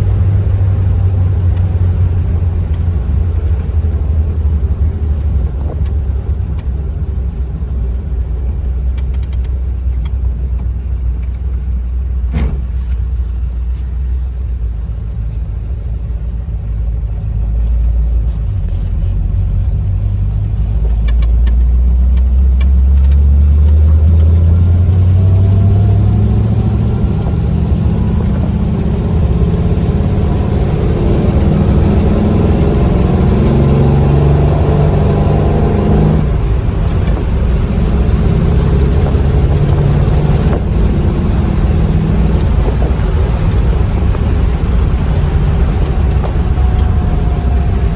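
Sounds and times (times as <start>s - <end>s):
car engine rumbling: 0.0s - 47.9s.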